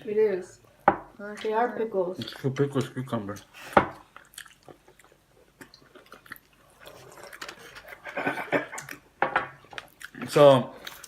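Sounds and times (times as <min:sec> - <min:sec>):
person chewing food: 0:01.2 - 0:11.0.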